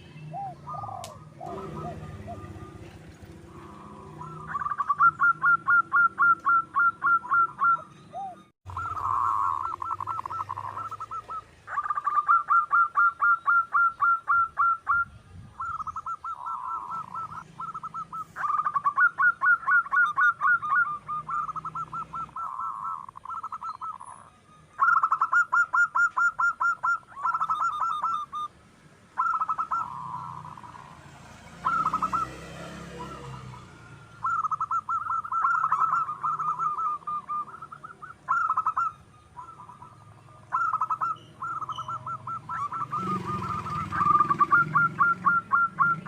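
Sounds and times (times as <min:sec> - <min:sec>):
dove cooing: 0:00.0 - 0:28.5, 0:29.2 - 0:46.0.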